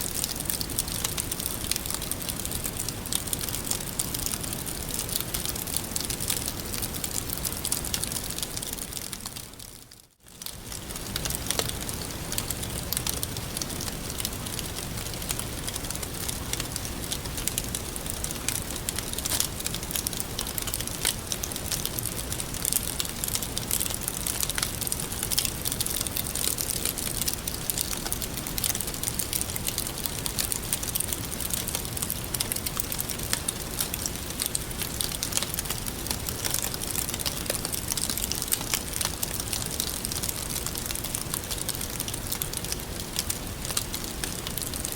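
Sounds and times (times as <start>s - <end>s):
campfire crackling and popping: 0.1s - 44.9s.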